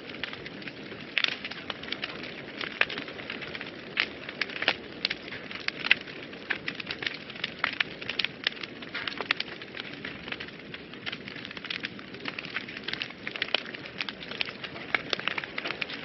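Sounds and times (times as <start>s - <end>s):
flames rushing: 0.0s - 16.0s
wood fire crackles and pops: 0.0s - 16.0s.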